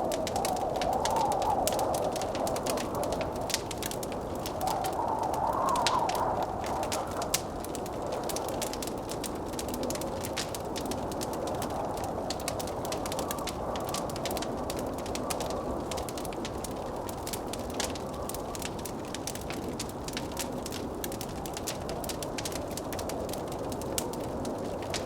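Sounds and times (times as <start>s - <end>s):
blizzard wind rushing: 0.0s - 20.6s
wood fire crackling: 0.0s - 25.0s.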